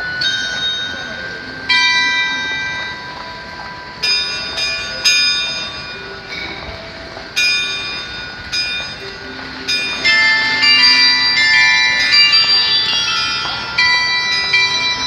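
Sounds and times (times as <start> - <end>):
tuned bells striking a melody: 0.0 - 15.0.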